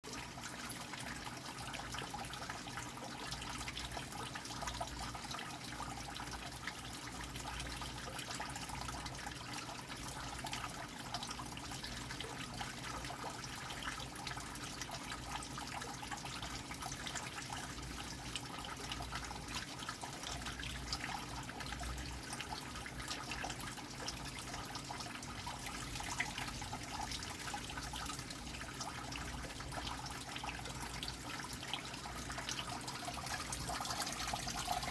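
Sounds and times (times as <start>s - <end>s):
water trickling into a drain: 0.0s - 34.9s.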